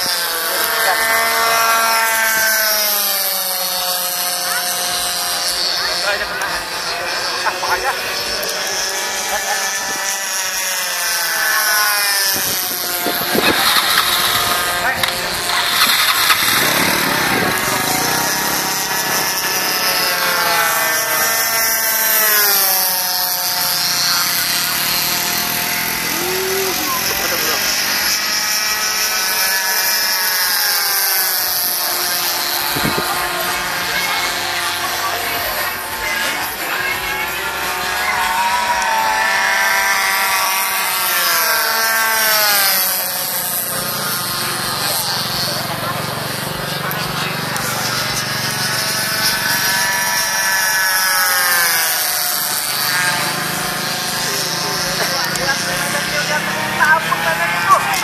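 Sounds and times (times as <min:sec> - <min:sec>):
model plane engines buzzing: 0:00.0 - 0:58.0.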